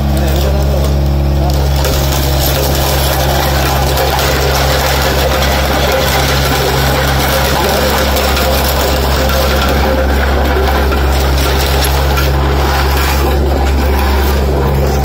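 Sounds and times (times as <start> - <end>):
road roller engine running: 0.0 - 15.0.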